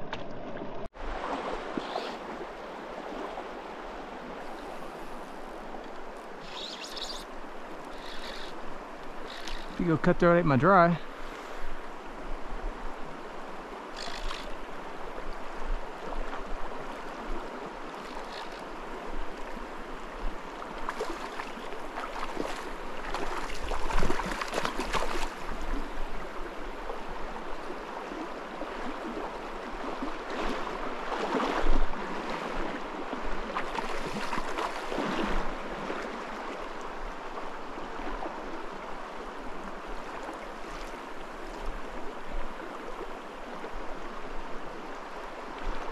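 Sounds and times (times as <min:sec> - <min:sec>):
creek water rippling: 0:00.0 - 0:45.9.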